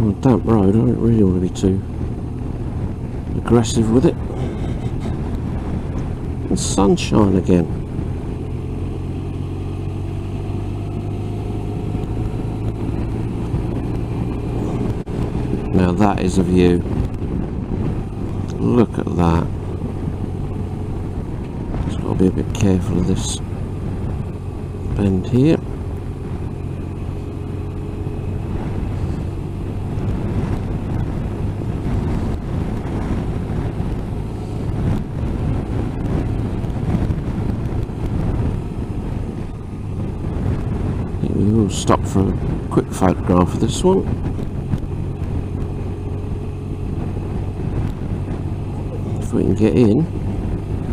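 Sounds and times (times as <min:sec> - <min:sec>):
motorcycle engine cruising: 0:00.0 - 0:50.9
wind buffeting microphone: 0:00.0 - 0:50.9.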